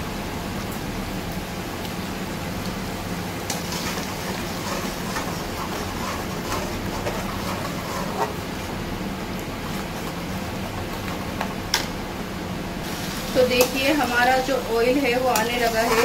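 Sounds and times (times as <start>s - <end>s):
masala sizzling in a pan: 0.4s - 16.0s.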